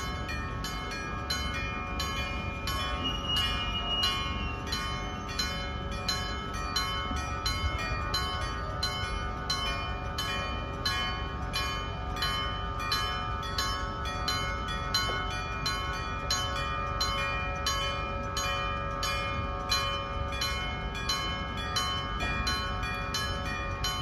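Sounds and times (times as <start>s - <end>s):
level crossing bell ringing: 0.0s - 24.0s.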